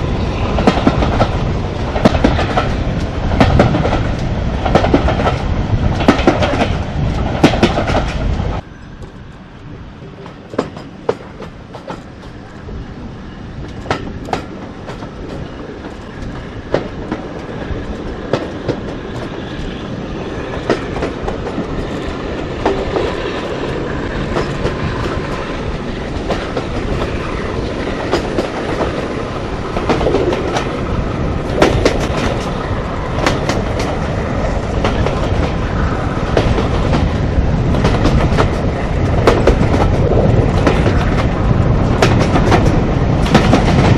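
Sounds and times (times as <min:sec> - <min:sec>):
train wheels clicking over rail joints: 0:00.0 - 0:12.6, 0:13.4 - 0:43.9
train rumble: 0:00.0 - 0:43.9.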